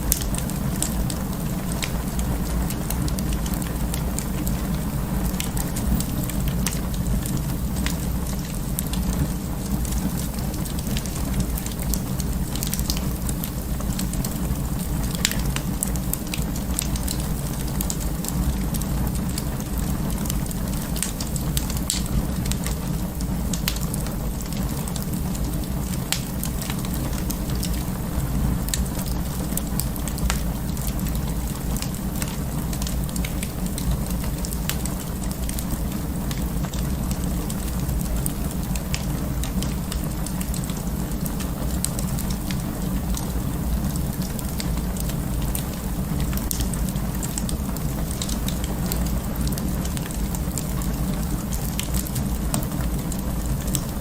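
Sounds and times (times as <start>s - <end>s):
fire crackling and popping: 0.0s - 54.0s
fire rumbling: 0.0s - 54.0s.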